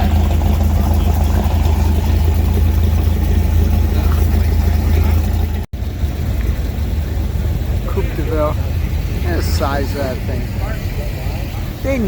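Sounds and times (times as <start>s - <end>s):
car engine rumbling past: 0.0s - 12.0s.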